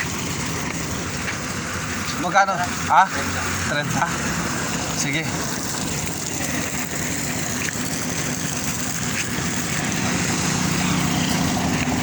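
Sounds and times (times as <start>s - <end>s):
running water hiss: 0.0s - 12.0s
vehicle engine idling: 0.0s - 12.0s.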